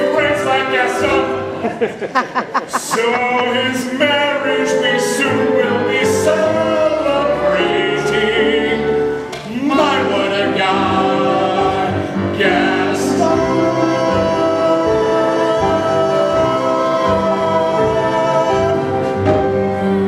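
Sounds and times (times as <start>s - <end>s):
man singing operatically: 0.0s - 1.6s, 2.6s - 19.2s
other voices singing: 0.0s - 19.6s
musical accompaniment: 0.0s - 20.0s.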